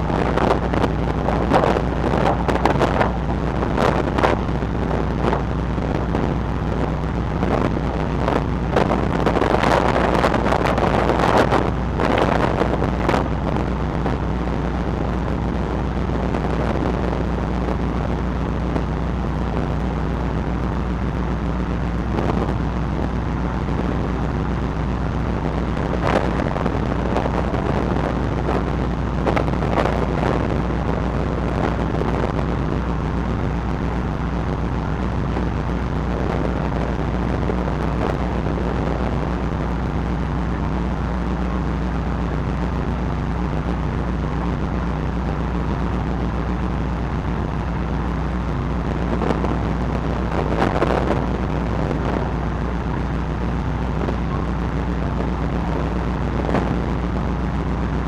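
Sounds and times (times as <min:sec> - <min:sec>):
ferry engines droning: 0:00.0 - 0:58.0
wind on microphone: 0:00.0 - 0:58.0.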